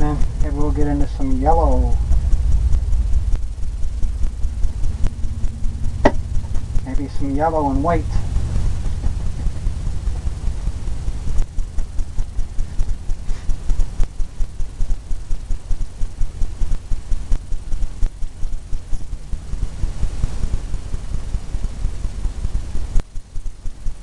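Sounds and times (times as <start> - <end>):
low rumble: 0.0 - 23.0
rapid even ticking: 0.0 - 24.0.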